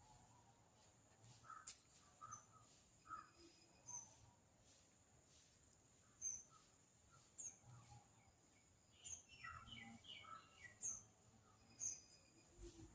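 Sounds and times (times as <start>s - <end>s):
faint bird chirps: 0.0s - 12.9s.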